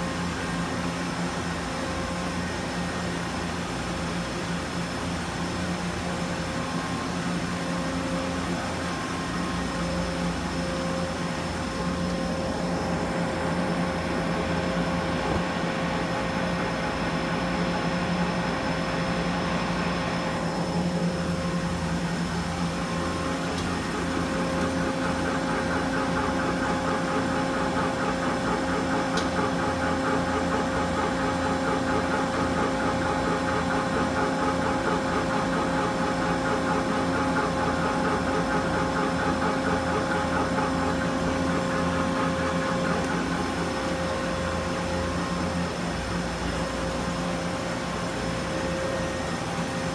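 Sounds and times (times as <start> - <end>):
machine hum: 0.0 - 49.9.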